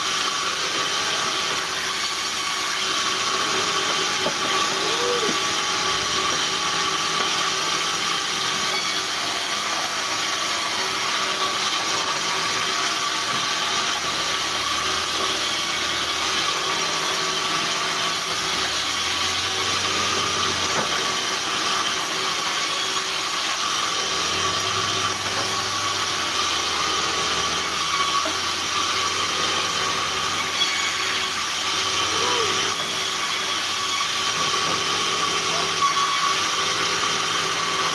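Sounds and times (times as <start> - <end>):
band saw cutting logs: 0.0 - 37.9.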